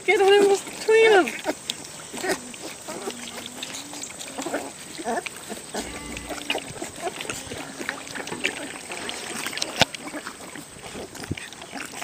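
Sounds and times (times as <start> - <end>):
puppies lapping milk: 0.0 - 12.0.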